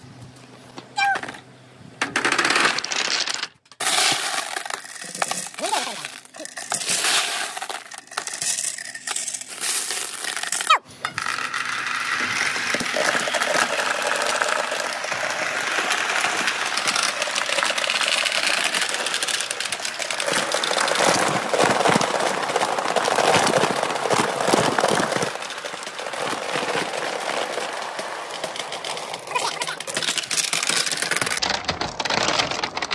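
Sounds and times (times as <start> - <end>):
marbles rolling through tubes: 0.9 - 32.9
marbles clicking and knocking: 2.0 - 32.9.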